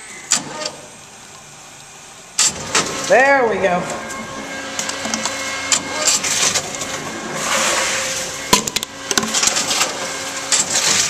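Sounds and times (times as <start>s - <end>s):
vending machine motor hum: 0.0s - 11.0s.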